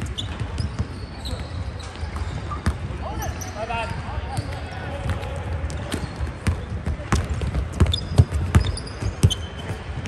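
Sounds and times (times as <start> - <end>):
basketballs bouncing on wood floor: 0.0 - 3.0, 3.8 - 10.0
sneaker squeaks: 0.0 - 10.0.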